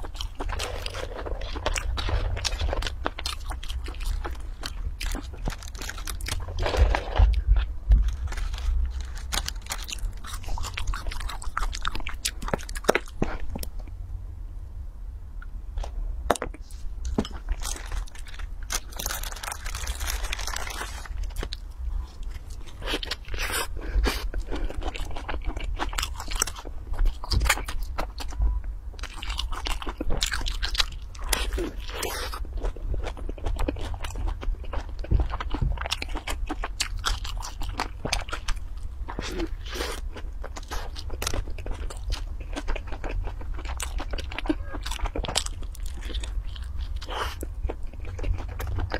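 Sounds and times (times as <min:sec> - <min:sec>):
crunchy chewing: 0:00.0 - 0:13.8, 0:15.8 - 0:48.9
steady low hum: 0:00.0 - 0:48.9.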